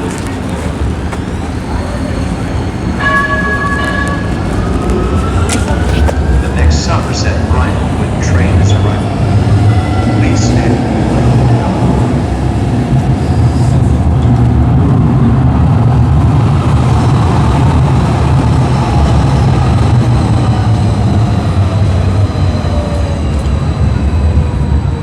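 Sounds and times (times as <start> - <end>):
light-rail train rumbling: 0.0 - 25.0.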